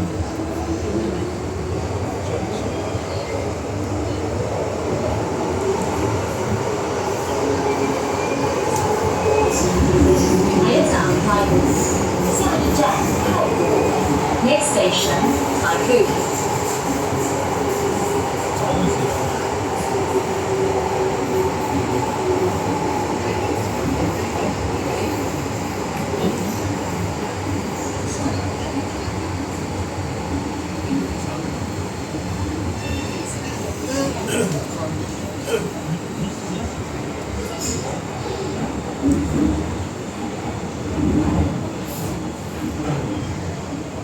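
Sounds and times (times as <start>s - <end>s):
train rumbling in tunnel: 0.0s - 44.0s.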